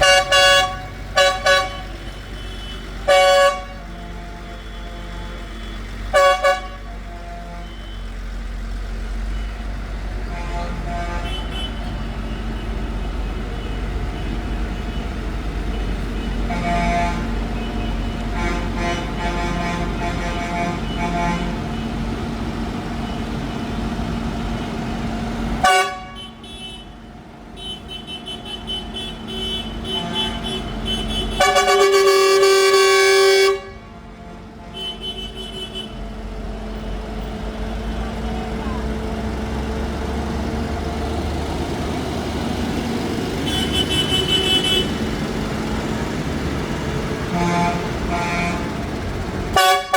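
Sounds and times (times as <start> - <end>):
horns tooting: 0.0 - 24.2, 25.3 - 49.9
tractor engines running: 0.0 - 49.9.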